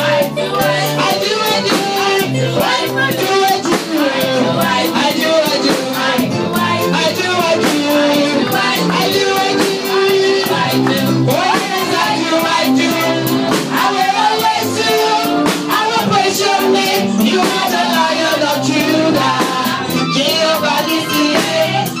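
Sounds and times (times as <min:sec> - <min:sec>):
person singing: 0:00.0 - 0:22.0
worship band playing: 0:00.0 - 0:22.0.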